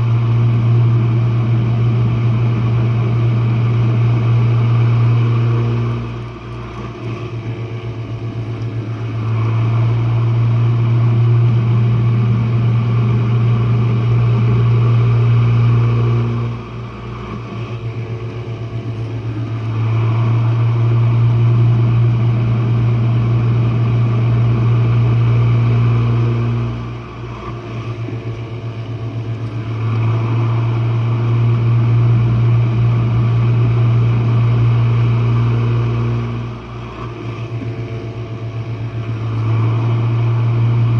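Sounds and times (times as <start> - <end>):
dishwasher motor hum: 0.0 - 40.9.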